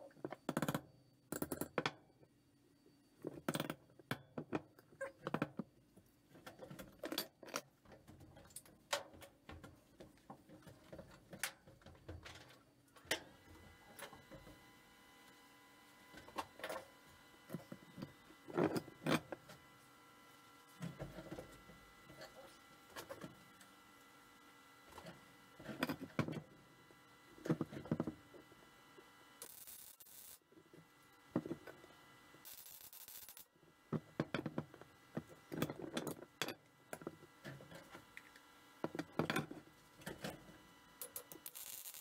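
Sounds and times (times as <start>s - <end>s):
electrical hum: 2.1s - 42.0s.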